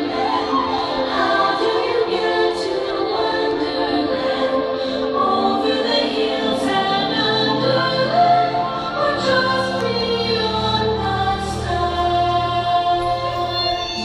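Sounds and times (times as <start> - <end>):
choir music over loudspeakers: 0.0 - 14.0.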